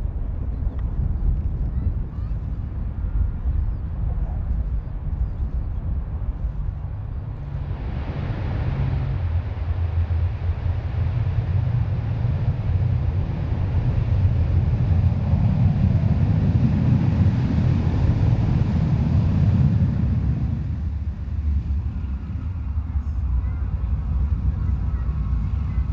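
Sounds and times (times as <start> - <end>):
propeller aircraft engine drone: 0.0 - 25.9.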